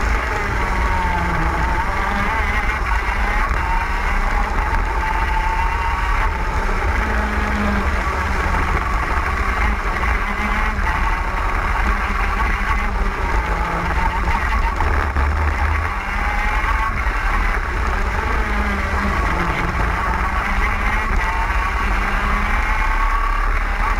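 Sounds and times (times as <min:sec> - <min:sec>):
kart engine wailing at high revs: 0:00.0 - 0:23.9.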